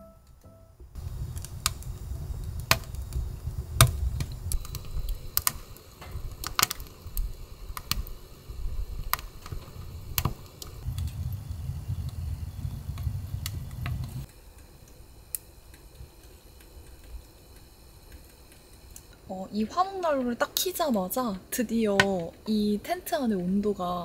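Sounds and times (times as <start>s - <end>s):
low fire rumble: 0.8s - 24.0s
wood fire crackling and popping: 0.9s - 24.0s.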